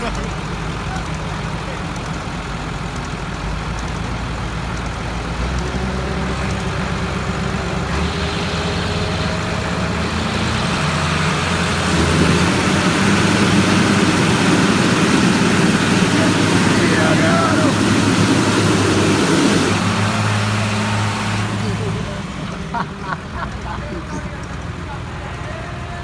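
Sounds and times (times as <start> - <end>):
tractor diesel engines straining: 0.0 - 26.0.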